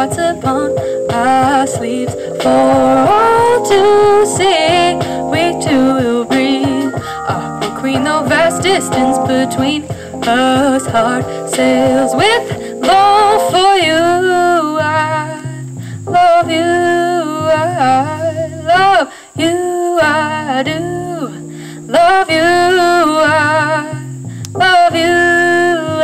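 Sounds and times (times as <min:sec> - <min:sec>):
woman singing with vibrato: 0:00.0 - 0:24.0, 0:24.6 - 0:26.0
instrumental backing with bass: 0:00.0 - 0:26.0.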